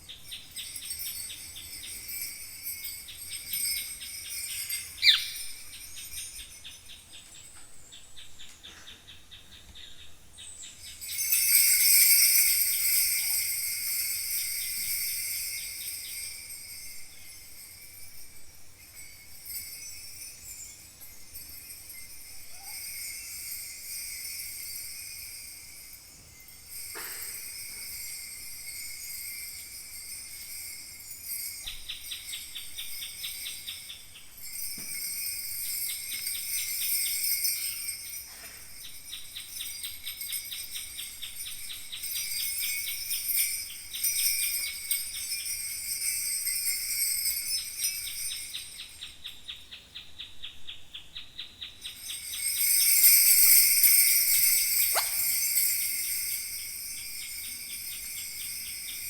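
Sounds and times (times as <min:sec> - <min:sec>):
bronze bells jingling: 0:00.0 - 0:07.8, 0:10.4 - 0:50.0, 0:51.3 - 0:59.0.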